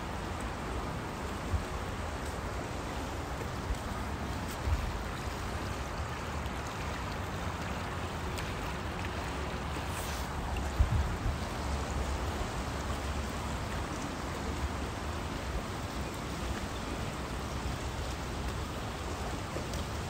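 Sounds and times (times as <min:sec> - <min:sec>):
river rushing over riffles: 0:00.0 - 0:20.0.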